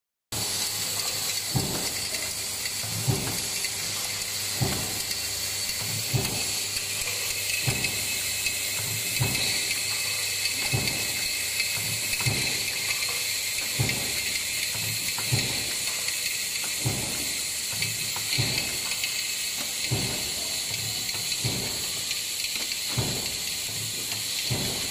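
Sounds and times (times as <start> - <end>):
machinery hiss and whine: 0.4 - 24.9
stamping press knocking: 1.5 - 9.7, 10.5 - 16.0, 16.6 - 24.9.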